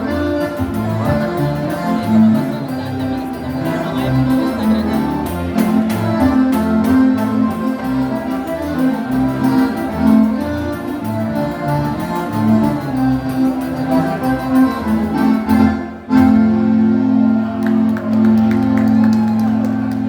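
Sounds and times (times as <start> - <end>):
live band dance music: 0.0 - 20.0.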